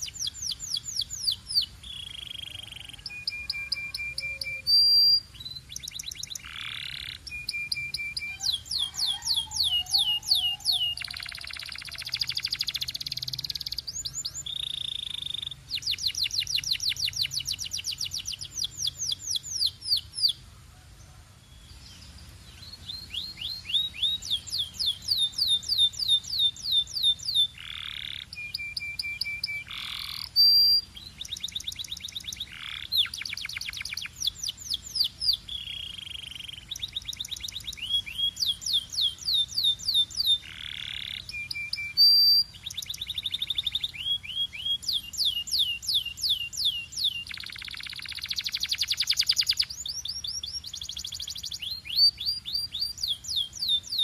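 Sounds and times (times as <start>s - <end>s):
canary singing trills: 0.0s - 20.5s, 21.5s - 54.0s.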